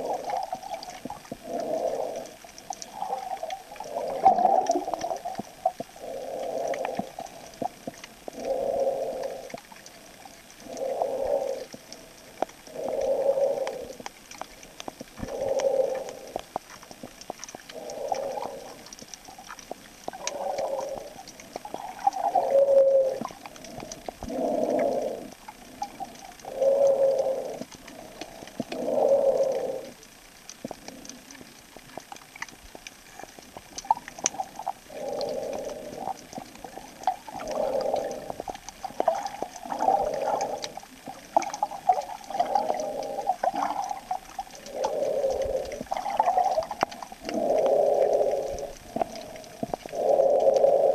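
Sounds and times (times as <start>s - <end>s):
muffled underwater breathing: 0.0s - 30.0s, 34.3s - 50.9s.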